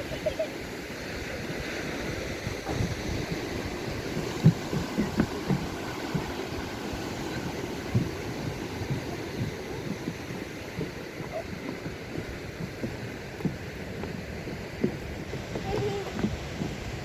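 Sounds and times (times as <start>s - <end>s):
surf breaking on shore: 0.0s - 17.0s
wind buffeting microphone: 0.0s - 17.0s.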